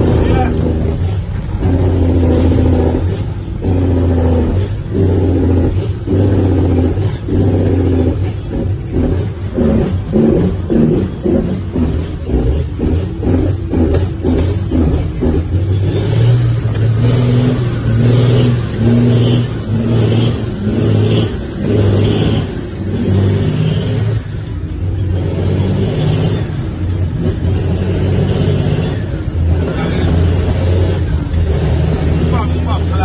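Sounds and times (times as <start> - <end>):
diesel truck engine under load: 0.0 - 33.0.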